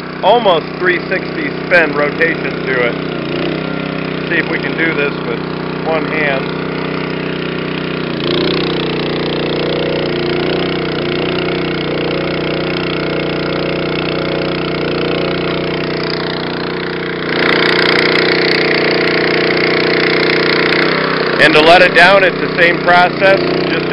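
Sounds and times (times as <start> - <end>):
boom lift engine running: 0.0 - 23.9.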